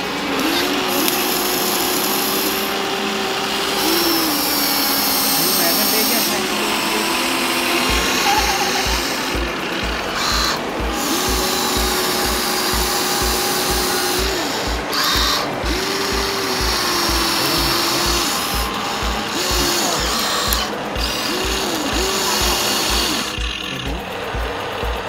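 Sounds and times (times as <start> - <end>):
steady music beat: 0.0 - 25.0
toy excavator electric motors whining: 0.0 - 25.0.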